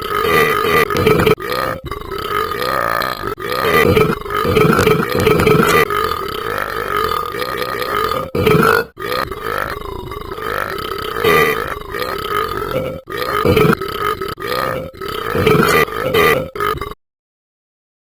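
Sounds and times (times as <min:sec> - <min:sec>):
person burping: 0:00.0 - 0:17.0.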